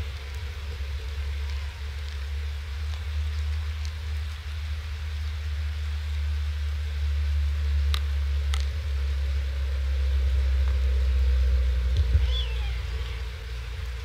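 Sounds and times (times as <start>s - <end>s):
rain and wind on microphone: 0.0s - 14.0s.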